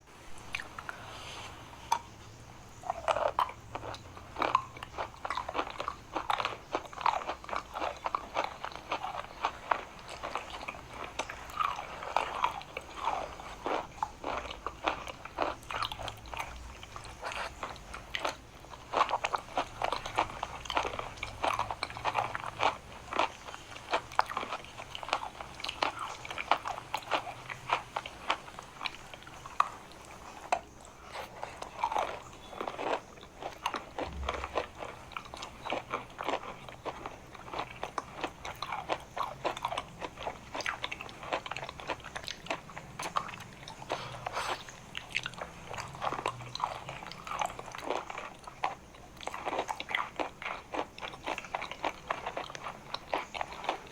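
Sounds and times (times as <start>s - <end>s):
chewing crunchy chalk: 0.5s - 53.9s.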